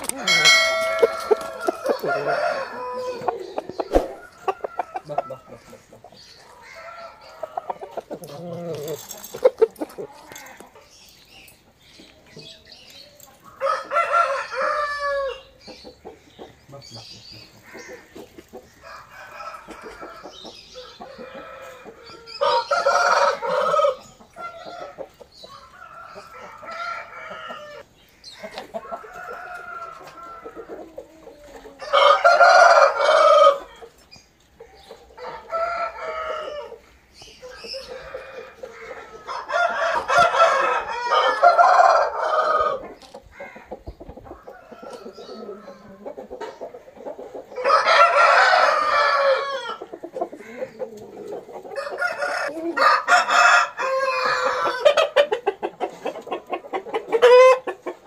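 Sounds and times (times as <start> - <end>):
roosters crowing: 0.0 - 10.9, 13.4 - 15.8, 17.5 - 34.0, 35.0 - 46.1, 46.8 - 58.0.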